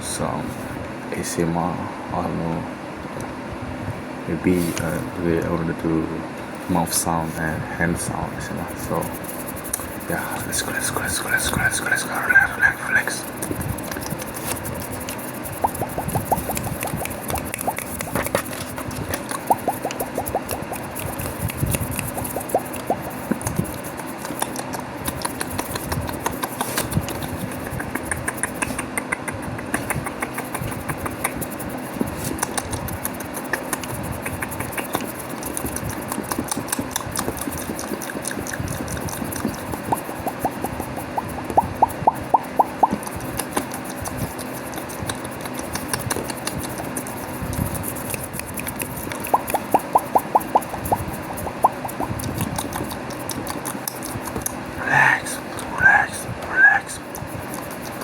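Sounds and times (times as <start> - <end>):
skin scratching: 6.7 - 58.0
mouth clicks and smacks: 8.3 - 58.0.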